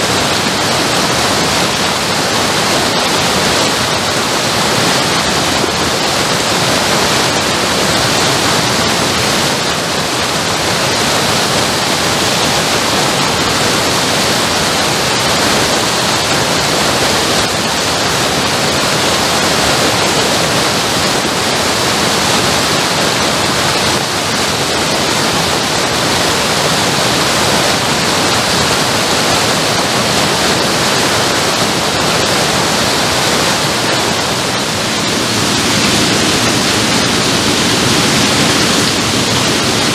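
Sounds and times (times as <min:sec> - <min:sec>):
water cascading down a bank: 0:00.0 - 0:39.9.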